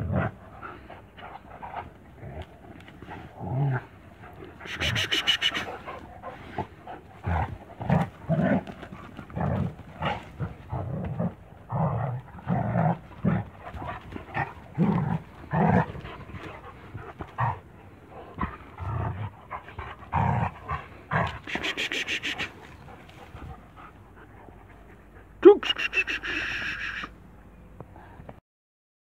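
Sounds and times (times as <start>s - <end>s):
dogs growling: 0.0s - 27.1s
dogs panting: 0.2s - 27.1s.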